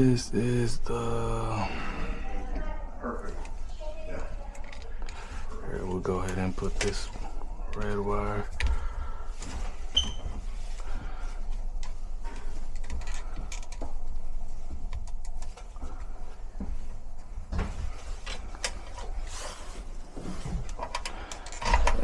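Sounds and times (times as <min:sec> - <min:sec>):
wires rustling: 0:00.0 - 0:22.0.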